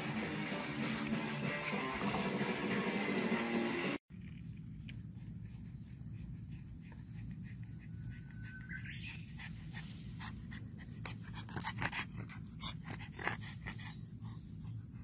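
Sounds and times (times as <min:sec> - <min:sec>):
dog panting and sniffing: 0:00.0 - 0:02.4, 0:04.7 - 0:15.0.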